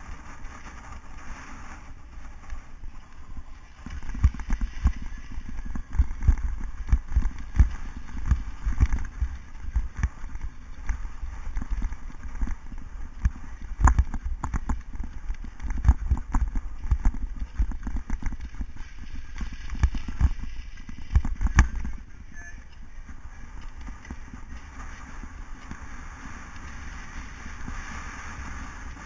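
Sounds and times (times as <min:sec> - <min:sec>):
wind rumble on microphone: 0:00.0 - 0:29.0
bike rattling and knocking: 0:03.4 - 0:29.0.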